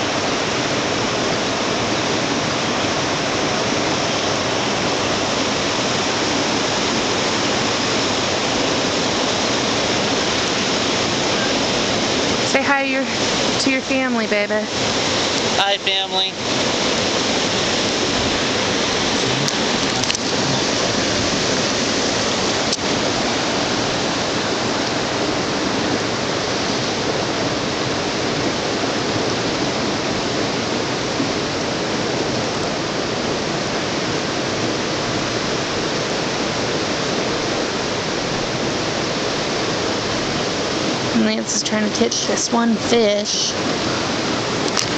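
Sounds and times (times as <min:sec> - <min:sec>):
river rapids rushing over boulders: 0:00.0 - 0:44.9.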